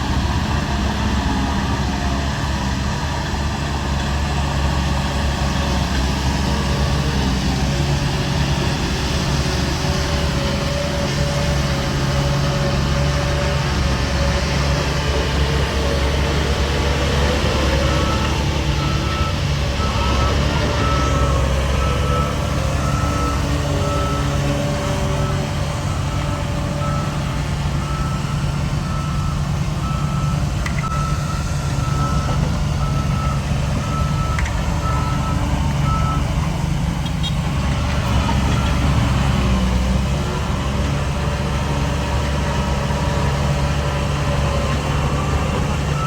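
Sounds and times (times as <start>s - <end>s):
diesel engine rumble: 0.0s - 46.0s.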